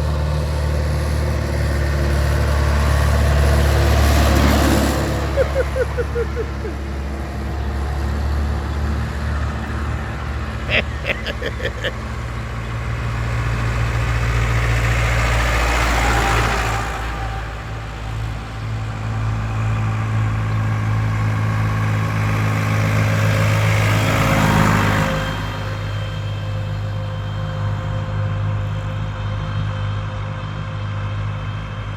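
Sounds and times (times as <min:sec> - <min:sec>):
tractor engines passing: 0:00.0 - 0:31.9.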